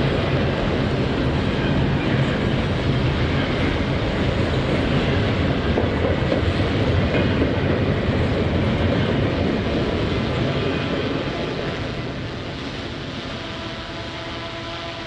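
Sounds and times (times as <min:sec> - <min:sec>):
freight train wheels on rail: 0:00.0 - 0:15.0.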